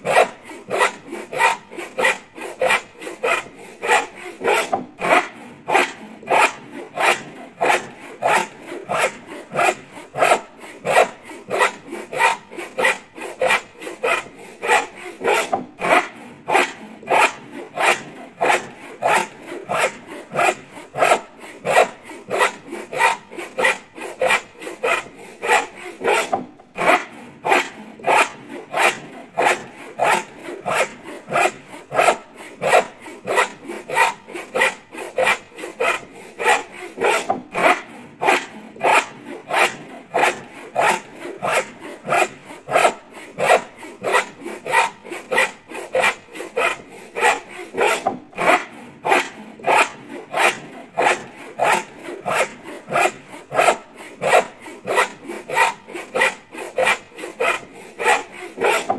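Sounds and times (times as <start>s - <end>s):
hand saw cutting wood: 0.0s - 58.9s.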